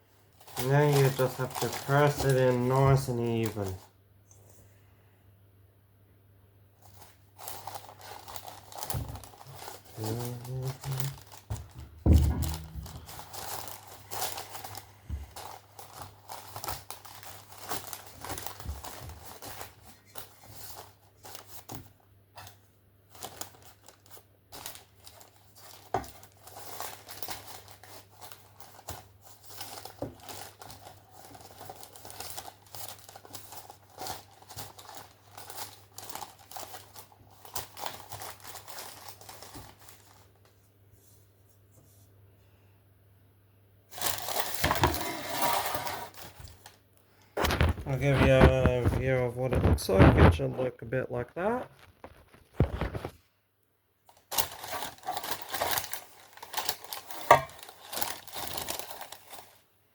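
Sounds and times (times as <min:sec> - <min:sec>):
baking paper crinkling: 0:00.0 - 0:04.0, 0:06.8 - 0:41.4, 0:43.9 - 0:53.3, 0:54.0 - 0:59.8.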